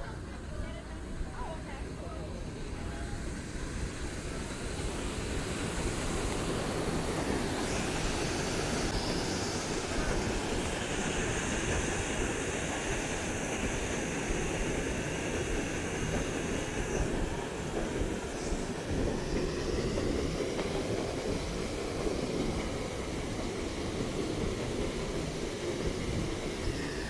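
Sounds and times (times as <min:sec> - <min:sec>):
wind: 0:00.0 - 0:27.0
paddlewheel turning through water: 0:03.6 - 0:27.0.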